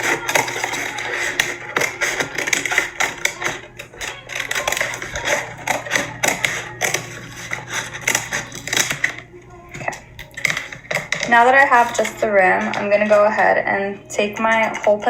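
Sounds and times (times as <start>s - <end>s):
scissors snipping paper plate: 0.0s - 13.6s.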